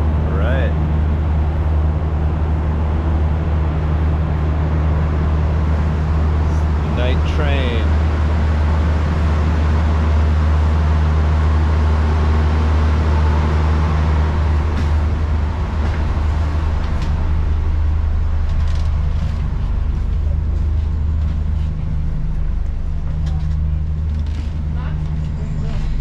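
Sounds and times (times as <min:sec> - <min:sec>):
diesel train engines droning: 0:00.0 - 0:26.0.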